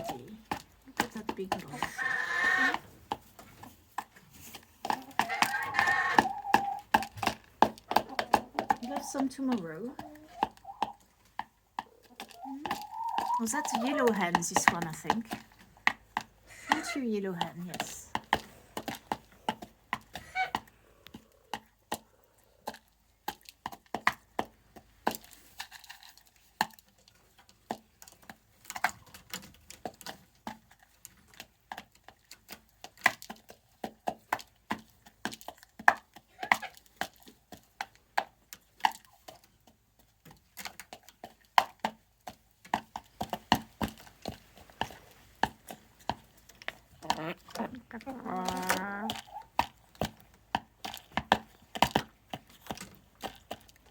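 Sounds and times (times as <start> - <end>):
hen beak pecking grain: 0.0 - 53.9.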